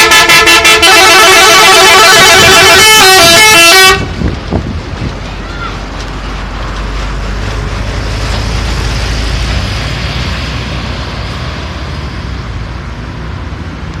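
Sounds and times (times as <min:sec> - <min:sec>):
heavy vehicle passing: 0:02.3 - 0:14.0.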